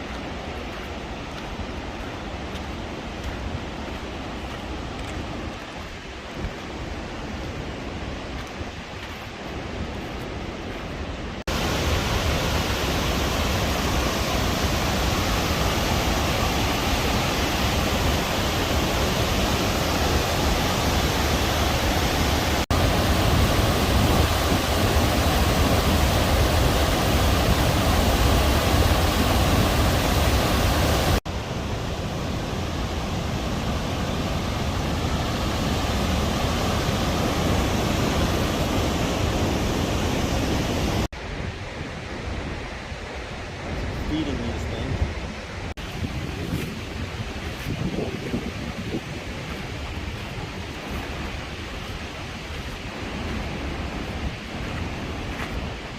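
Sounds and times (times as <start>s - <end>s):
fast-flowing river water: 0.0s - 55.9s.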